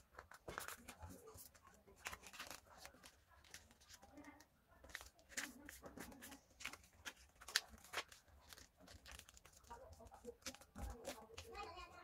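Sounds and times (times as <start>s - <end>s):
paper being folded: 0.0s - 11.6s.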